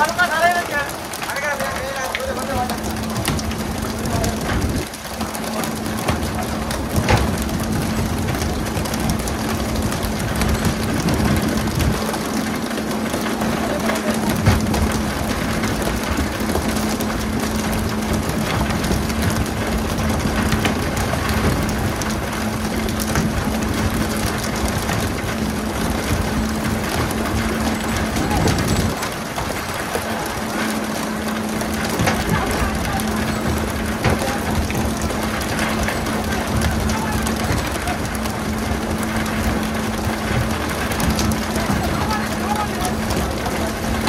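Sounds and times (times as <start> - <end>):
boat engine humming: 0.0 - 44.0
rushing water: 0.0 - 44.0.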